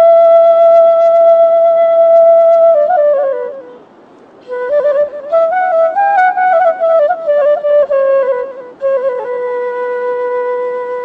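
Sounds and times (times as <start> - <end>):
flute-like solo melody: 0.0 - 11.0.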